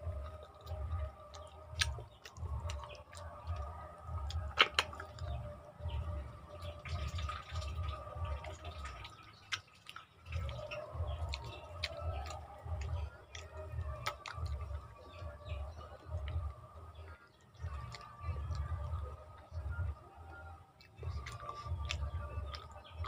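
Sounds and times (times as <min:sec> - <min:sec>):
wet chewing: 0:00.0 - 0:23.0
wet mouth clicks and smacks: 0:00.2 - 0:23.0.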